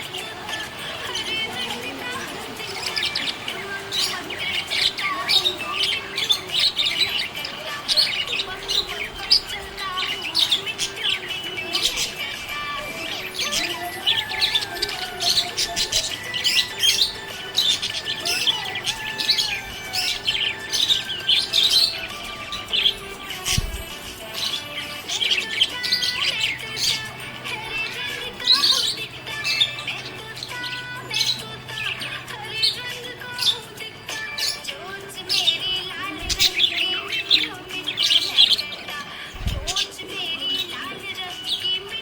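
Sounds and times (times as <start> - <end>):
budgerigars chirping and warbling: 0.0 - 42.0.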